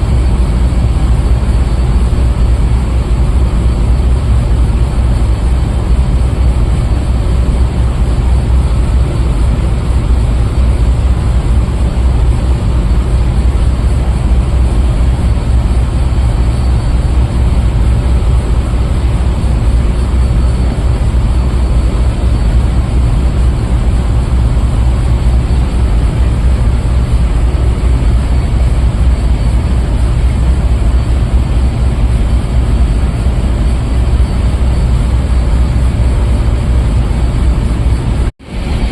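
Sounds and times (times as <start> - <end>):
ship engine machinery drone: 0.0 - 38.9.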